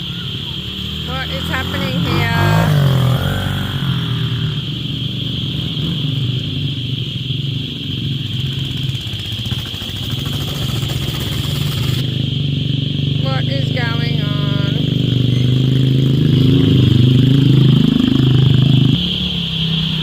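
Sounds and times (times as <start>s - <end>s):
high-pitched whine: 0.0s - 20.0s
vehicle engine running: 0.0s - 20.0s.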